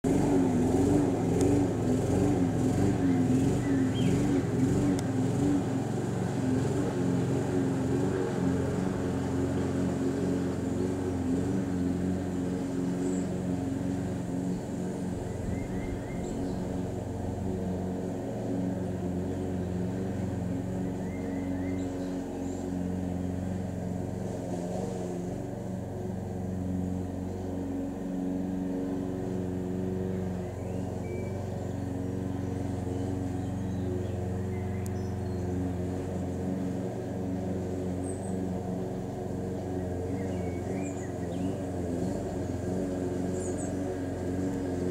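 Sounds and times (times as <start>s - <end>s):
motor humming: 0.0s - 44.9s.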